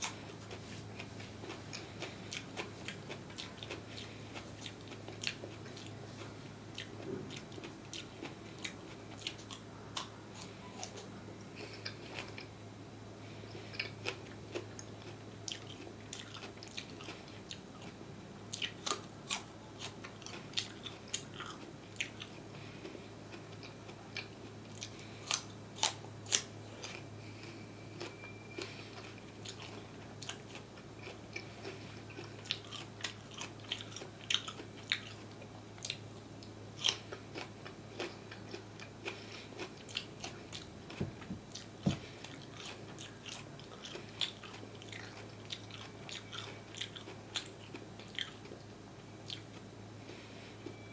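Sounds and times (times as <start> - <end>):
crunchy chewing: 0.0 - 12.6, 13.3 - 50.3
faint steady hum: 0.0 - 50.9.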